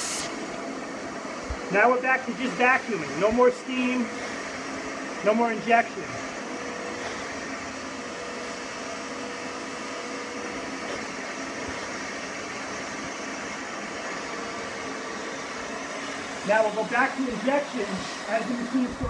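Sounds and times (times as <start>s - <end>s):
vacuum sucking on wet carpet: 0.0s - 19.0s.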